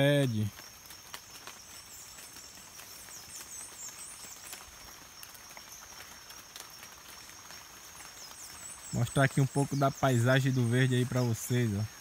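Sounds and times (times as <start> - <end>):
faint rustles and ticks: 0.0 - 12.0
insect drone: 0.0 - 12.0.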